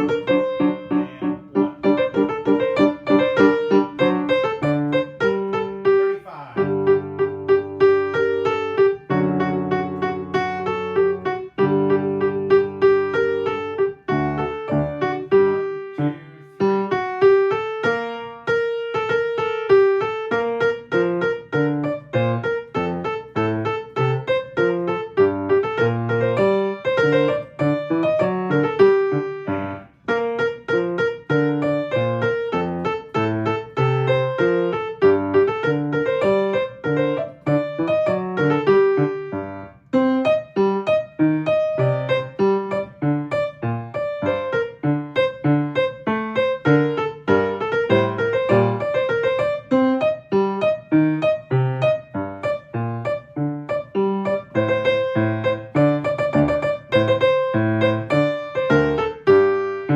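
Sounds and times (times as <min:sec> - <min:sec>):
piano melody with chords: 0:00.0 - 0:59.9.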